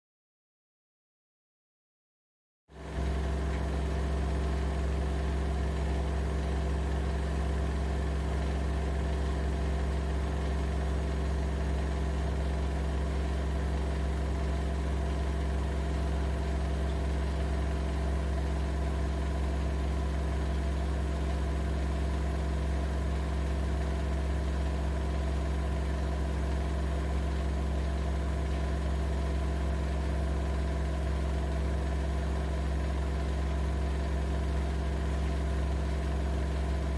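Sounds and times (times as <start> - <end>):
washing machine humming: 2.8 - 36.9.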